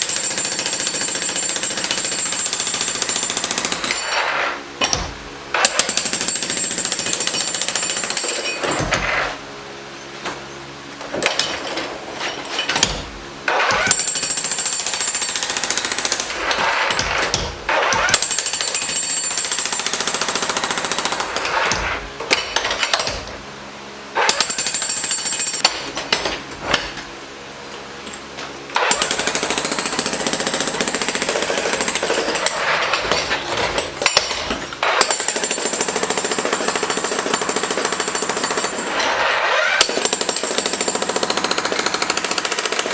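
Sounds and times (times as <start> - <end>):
jackhammer chipping concrete: 0.0 - 9.4, 11.2 - 23.4, 24.1 - 27.0, 28.8 - 42.9.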